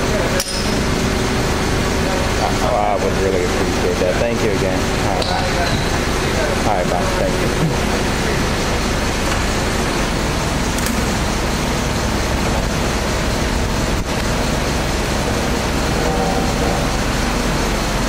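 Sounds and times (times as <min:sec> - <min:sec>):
pressure washer running: 0:00.0 - 0:18.0.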